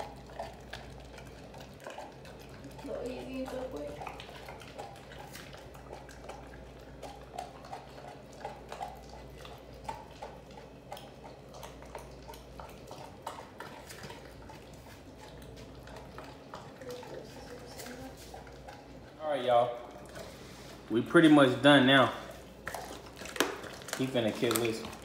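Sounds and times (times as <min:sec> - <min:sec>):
dog chewing meat: 0:00.0 - 0:25.0.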